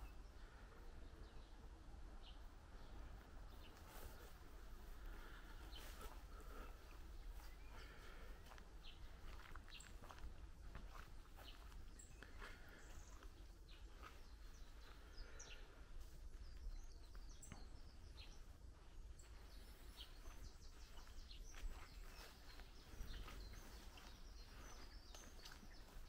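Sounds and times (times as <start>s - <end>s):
faint bird chirps: 2.3s - 26.0s.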